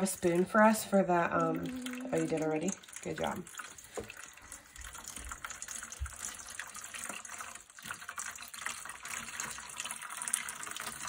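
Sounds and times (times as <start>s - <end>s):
water pouring into metal pan: 0.0s - 11.0s.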